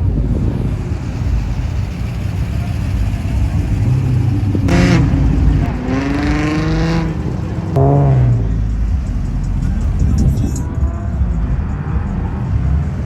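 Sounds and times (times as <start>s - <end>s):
car engine revving: 0.0s - 13.0s
car engines rumbling: 0.0s - 13.0s.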